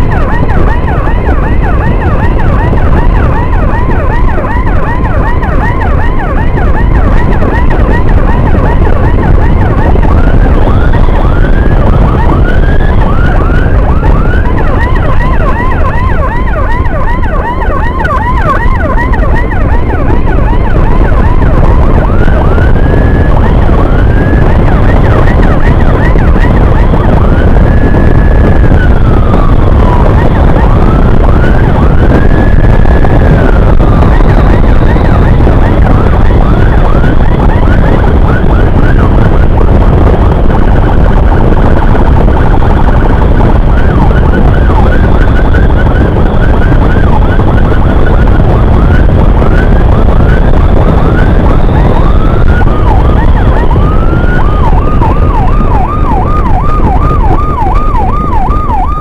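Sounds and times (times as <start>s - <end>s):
electronic siren yelping and wailing: 0.0s - 59.0s
wind and motorcycle engine rumble: 0.0s - 59.0s.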